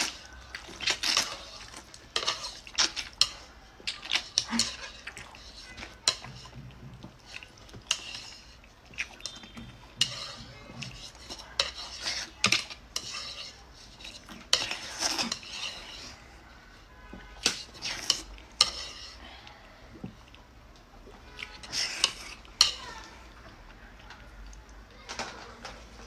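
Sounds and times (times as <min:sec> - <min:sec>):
wet eating noises: 0:00.0 - 0:25.0.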